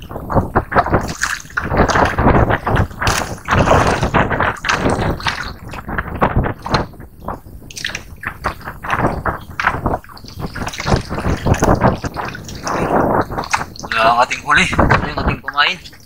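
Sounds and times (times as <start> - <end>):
sea water splashing: 0.0 - 16.0.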